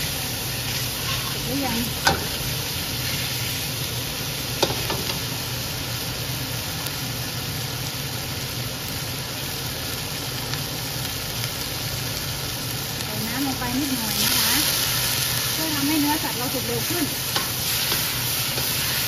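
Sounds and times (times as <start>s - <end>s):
food sizzling in oil in a wok: 0.0s - 19.0s.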